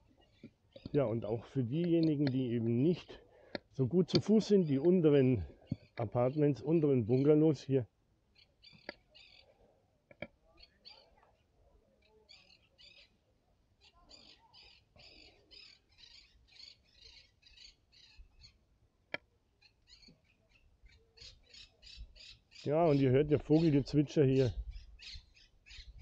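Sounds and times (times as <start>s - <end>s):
small birds twittering: 0.0s - 7.6s, 8.3s - 11.4s, 12.0s - 13.2s, 13.8s - 18.6s, 19.6s - 26.0s.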